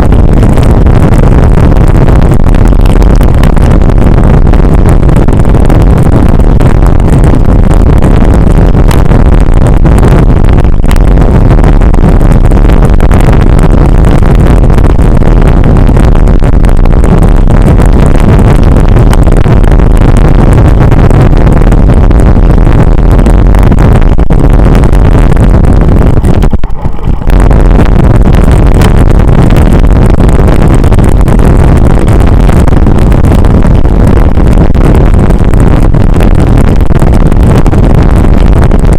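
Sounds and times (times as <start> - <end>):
wind buffeting on microphone: 0.0 - 38.9.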